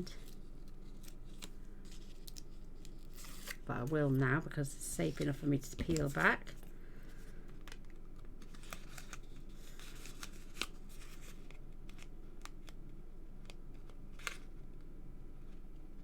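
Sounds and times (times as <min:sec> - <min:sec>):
paper peeling and crackling: 0:00.0 - 0:14.8.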